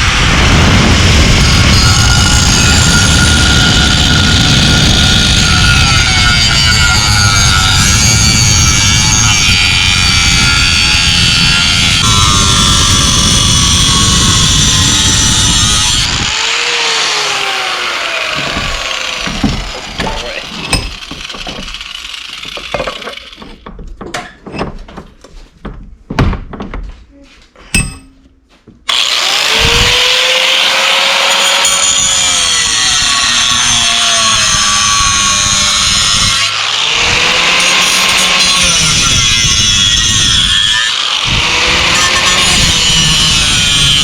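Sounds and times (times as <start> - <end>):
power tool whining: 0.0 - 23.6, 28.9 - 44.0.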